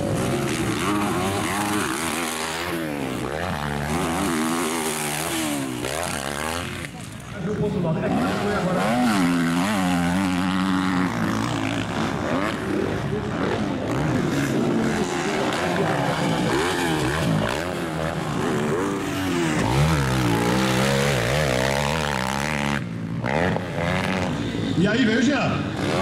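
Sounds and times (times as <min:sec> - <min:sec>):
motocross bike engines revving: 0:00.0 - 0:26.0.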